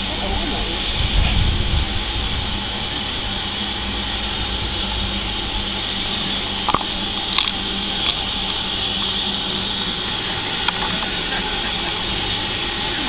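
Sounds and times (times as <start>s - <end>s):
train rumble and hiss: 0.0s - 13.0s.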